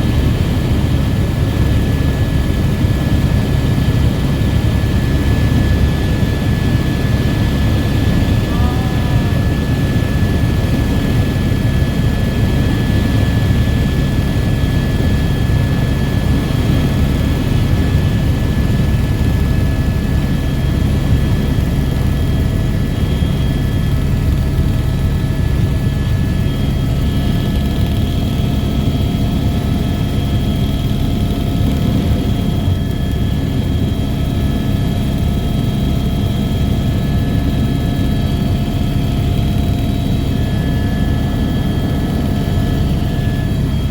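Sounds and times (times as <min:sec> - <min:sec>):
helicopter running: 0:00.0 - 0:43.9.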